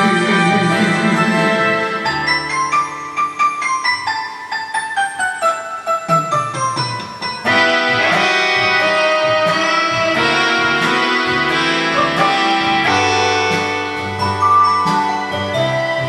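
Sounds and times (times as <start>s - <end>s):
instrumental backing track chords: 0.0s - 16.0s.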